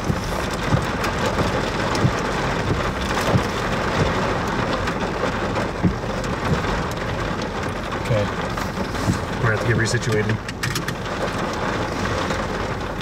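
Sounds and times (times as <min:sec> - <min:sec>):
rain on vehicle roof: 0:00.0 - 0:13.0.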